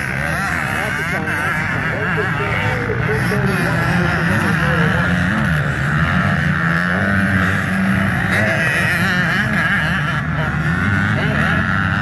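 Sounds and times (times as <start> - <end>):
dirt bike engines racing: 0.0 - 12.0.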